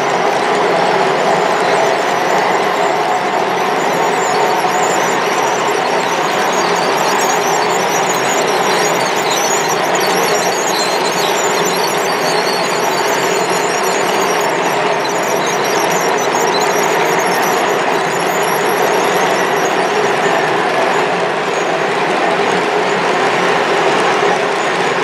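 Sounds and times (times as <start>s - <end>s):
high-pitched squeal: 0.0s - 25.0s.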